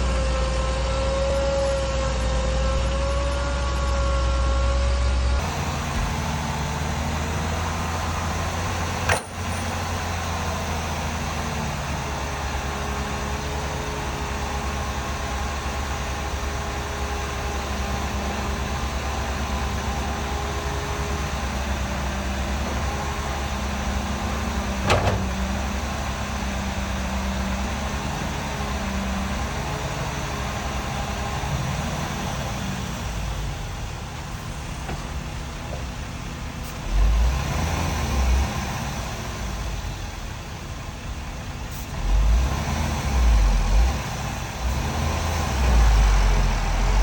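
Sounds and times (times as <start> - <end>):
diesel machinery rumbling: 0.0 - 47.0.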